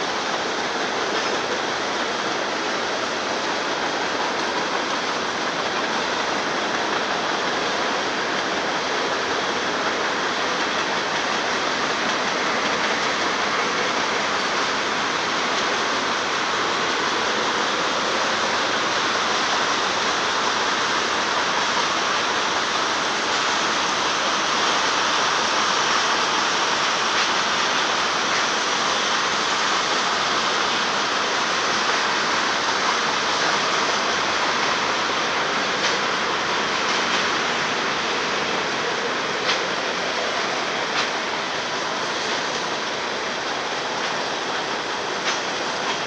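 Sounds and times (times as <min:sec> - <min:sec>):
steel wheels rolling on rail: 0:00.0 - 0:46.0.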